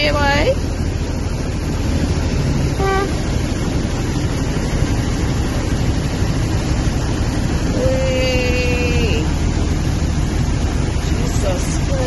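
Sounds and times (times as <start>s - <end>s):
engine rumbling: 0.0s - 12.0s
water washing against vehicle: 0.0s - 12.0s.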